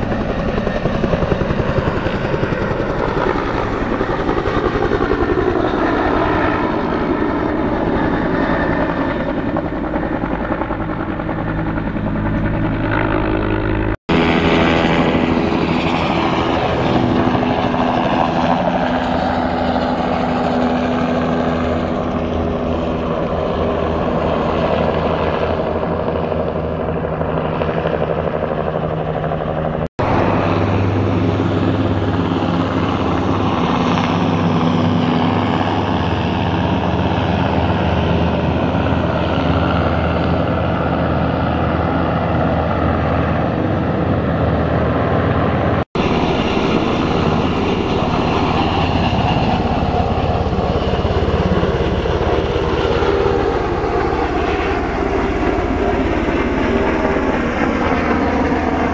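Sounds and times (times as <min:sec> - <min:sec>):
helicopters flying overhead: 0:00.0 - 0:58.9.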